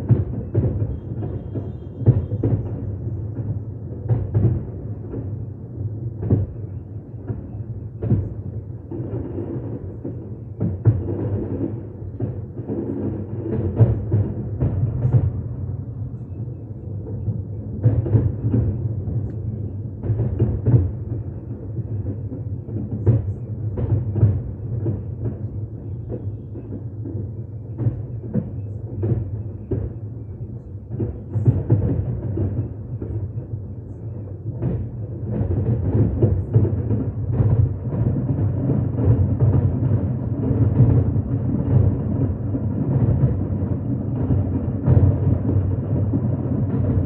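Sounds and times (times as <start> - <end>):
fireworks booming: 0.0 - 47.0.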